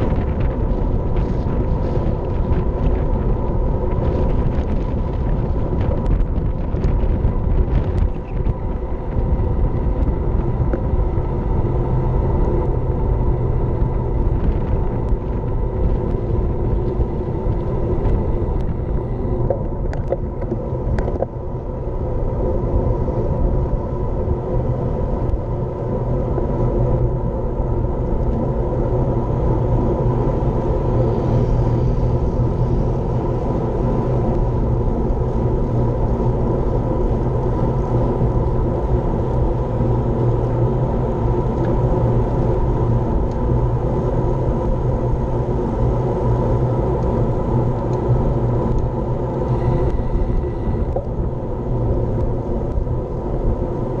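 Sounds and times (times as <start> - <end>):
tyres humming on tarmac: 0.0 - 54.0
wind rumble on microphone: 0.0 - 54.0.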